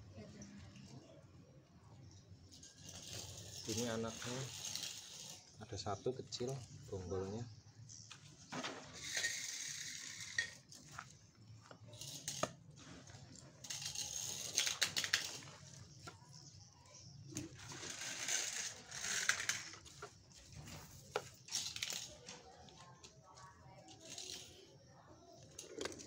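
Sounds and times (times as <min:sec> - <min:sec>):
dry potting mix rustling: 0:02.4 - 0:26.0.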